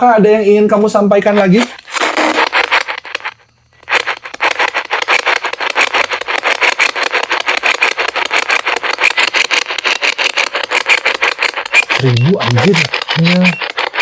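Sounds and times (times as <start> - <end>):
pulses of crackling static: 0.7 - 14.0.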